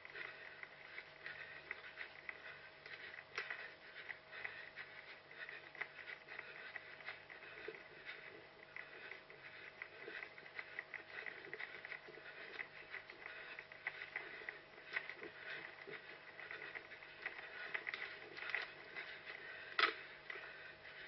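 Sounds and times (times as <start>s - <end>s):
faint steady hum: 0.0s - 21.0s
running footsteps: 0.0s - 21.0s.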